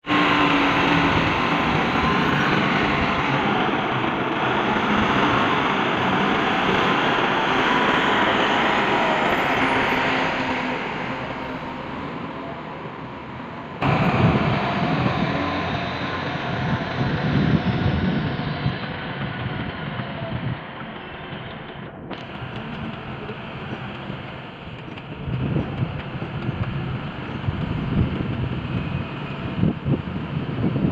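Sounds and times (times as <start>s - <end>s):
heavy construction machinery running: 0.0s - 30.9s.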